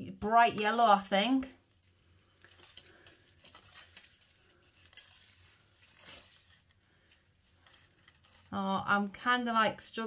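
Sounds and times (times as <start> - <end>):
gloved hands rustling wet hair: 0.2 - 9.2.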